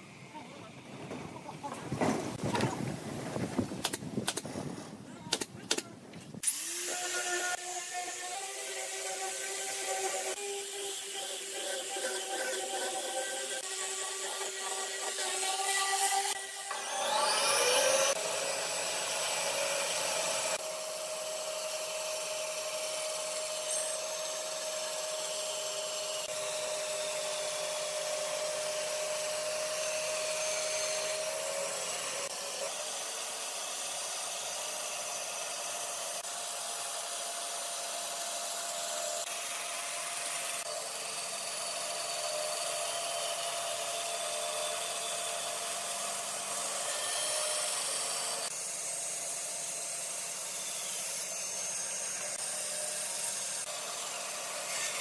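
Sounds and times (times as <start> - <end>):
band saw cutting wood: 6.4 - 55.0.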